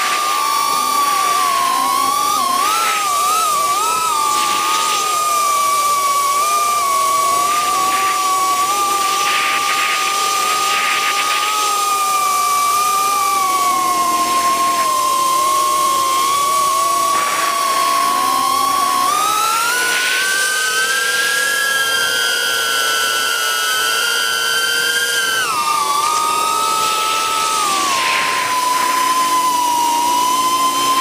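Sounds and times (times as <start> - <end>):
drone motors and propellers whining: 0.0 - 31.0.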